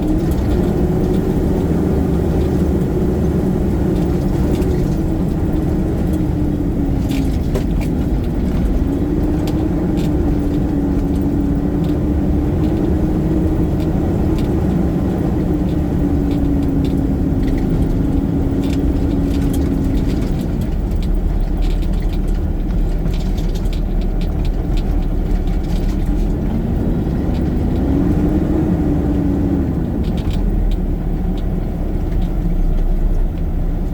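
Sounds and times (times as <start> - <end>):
garbage truck engine rumbling: 0.0 - 33.9
light rattles and clicks: 0.0 - 33.9.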